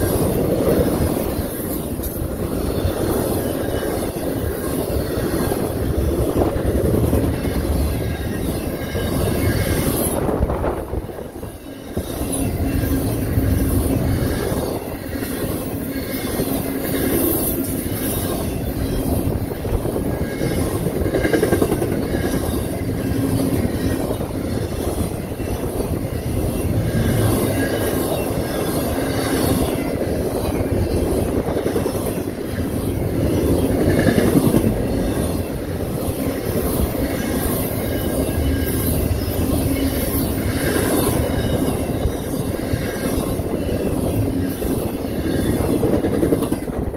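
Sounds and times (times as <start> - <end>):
freight train wheels rumbling on rails: 0.0 - 46.9.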